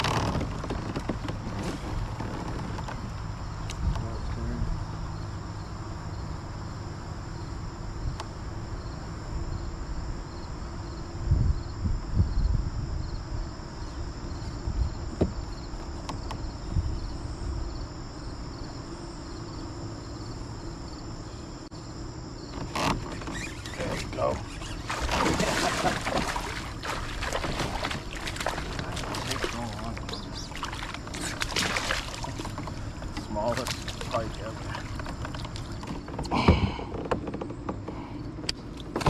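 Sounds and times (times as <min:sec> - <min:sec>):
insects trilling and chirping: 0:00.0 - 0:39.0.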